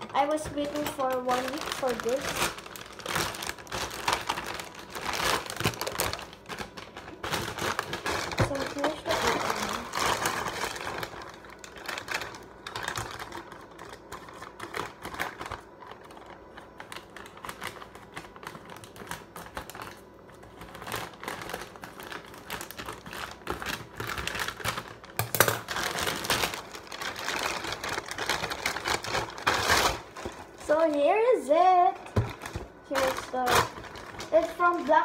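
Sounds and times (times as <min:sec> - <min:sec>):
plastic mailer bag crinkling: 0:00.0 - 0:35.0.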